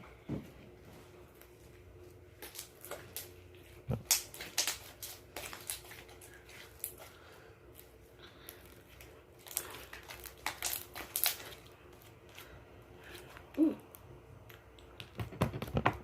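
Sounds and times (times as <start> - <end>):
slime squishing by hand: 1.3 - 16.0.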